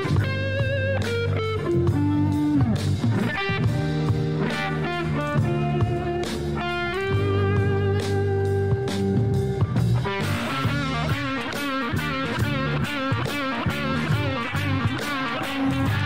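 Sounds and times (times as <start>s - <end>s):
band backing music: 0.0s - 16.0s
electric guitar with pitch bends: 0.0s - 16.0s.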